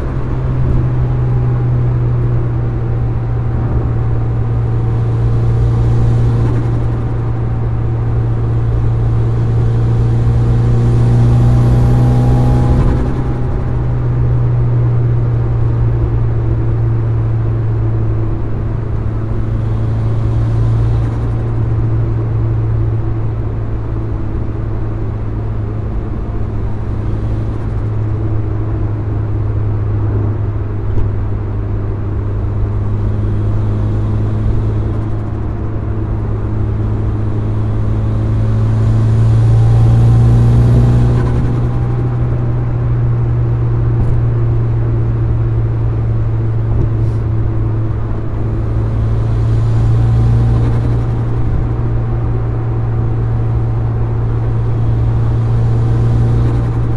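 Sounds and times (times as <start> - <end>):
car engine drone inside cabin: 0.0 - 56.9.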